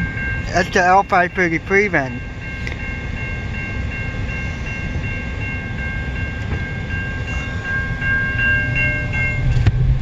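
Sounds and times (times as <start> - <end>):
freight train rumbling on rails: 0.0 - 10.0
pulsing high ringing tones: 0.0 - 10.0.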